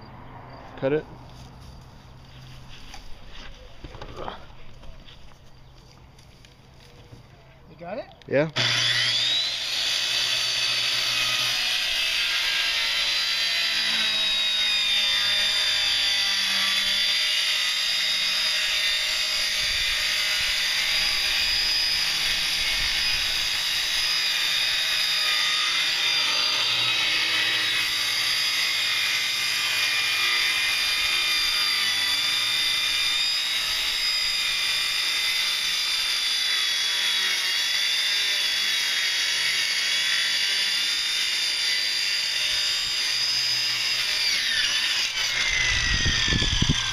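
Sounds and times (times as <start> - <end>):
power tool high-pitched whine: 8.6 - 46.9.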